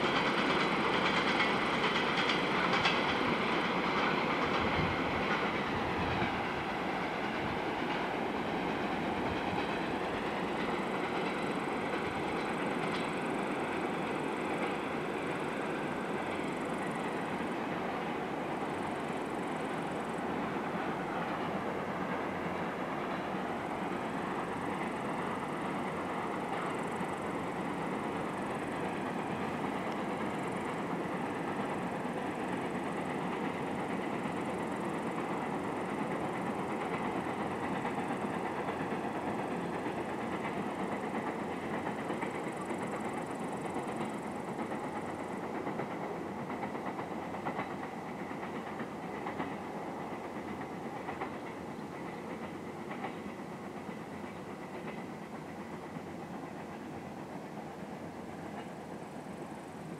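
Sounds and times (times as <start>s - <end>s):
freight train wheels rumbling: 0.0s - 59.9s
wheels clicking over rail joints: 0.0s - 59.9s.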